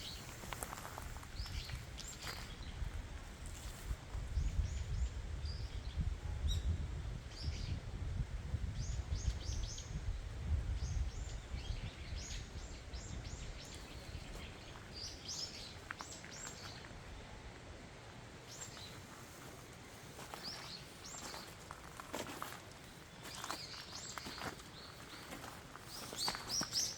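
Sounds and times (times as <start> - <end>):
small birds chirping: 0.0 - 7.8, 8.7 - 17.2, 18.4 - 26.9.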